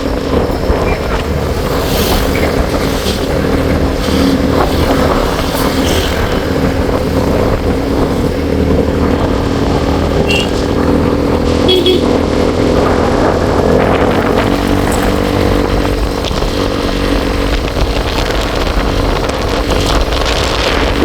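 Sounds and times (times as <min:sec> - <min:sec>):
vehicle engine running: 0:00.0 - 0:21.0
wind noise rushing: 0:00.0 - 0:21.0.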